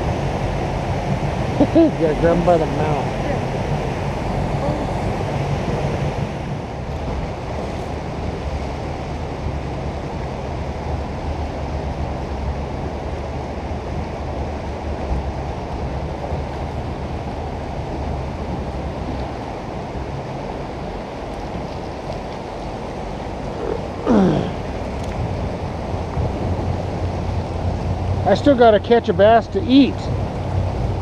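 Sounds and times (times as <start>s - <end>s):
boat engine hum: 0.0s - 31.0s
river water rushing: 0.0s - 31.0s
wind buffeting microphone: 0.0s - 31.0s.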